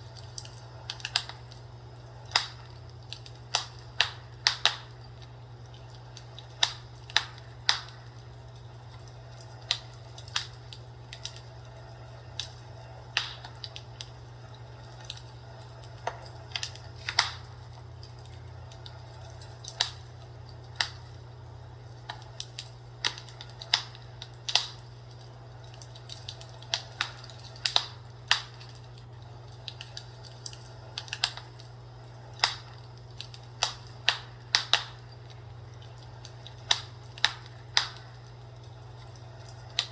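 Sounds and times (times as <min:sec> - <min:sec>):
fire crackling and popping: 0:00.0 - 0:39.9
steady low hum: 0:00.0 - 0:39.9.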